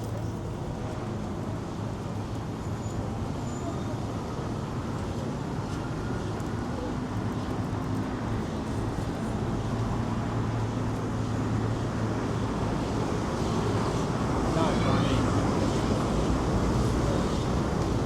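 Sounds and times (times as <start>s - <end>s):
traffic noise: 0.0s - 18.0s.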